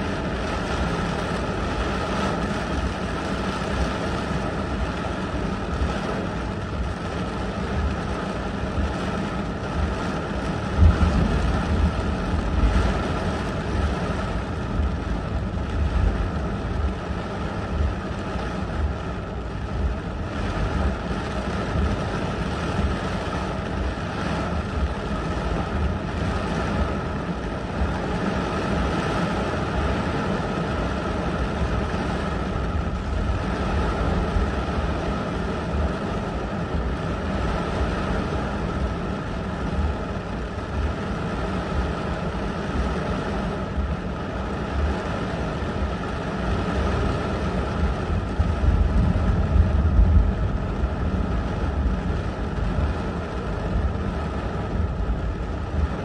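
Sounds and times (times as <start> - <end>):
deep rumble: 0.0 - 56.0
heavy rain hitting a car: 0.0 - 56.0
strong wind: 0.0 - 56.0.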